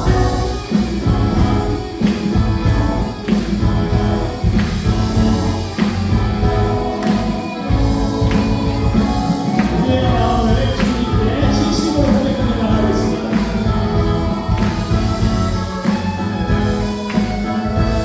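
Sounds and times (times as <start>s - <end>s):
bass guitar: 0.0s - 18.0s
drums steady beat: 0.0s - 18.0s
electric guitar: 0.0s - 18.0s
keyboards: 0.0s - 18.0s.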